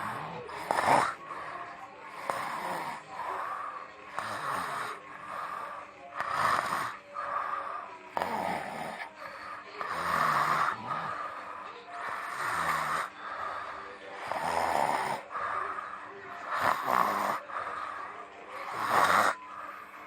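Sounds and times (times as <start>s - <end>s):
person snoring: 0.0s - 19.9s.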